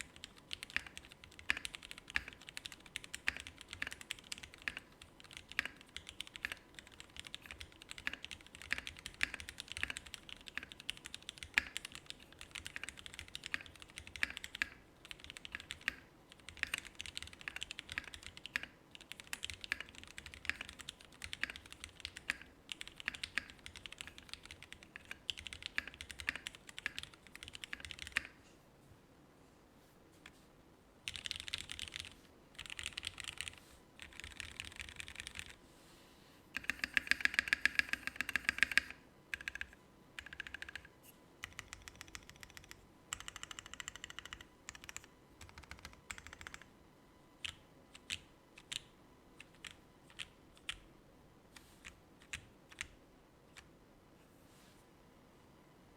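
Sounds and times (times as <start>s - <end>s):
mechanical keyboard typing: 0.0s - 28.4s, 31.1s - 35.6s, 36.6s - 46.7s, 47.4s - 50.9s, 51.8s - 53.7s.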